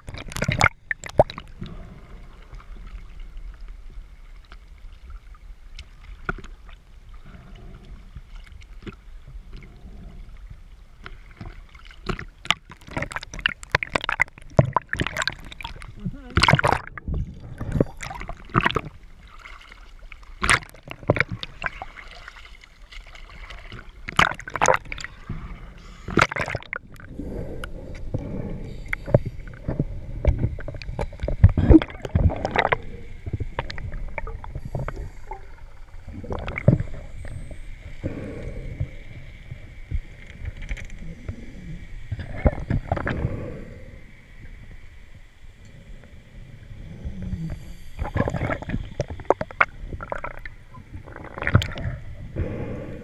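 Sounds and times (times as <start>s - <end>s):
underwater bubbling: 0.0s - 53.0s.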